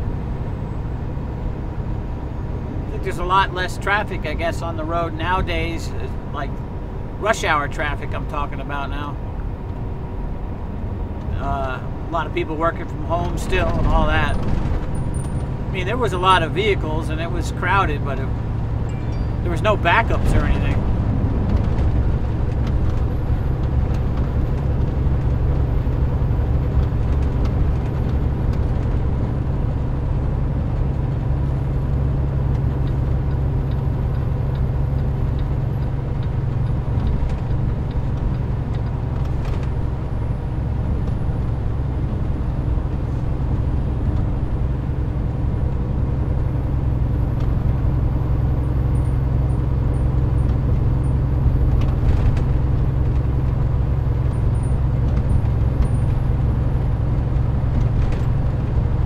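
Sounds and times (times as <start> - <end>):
diesel engine drone and road noise: 0.0 - 59.0.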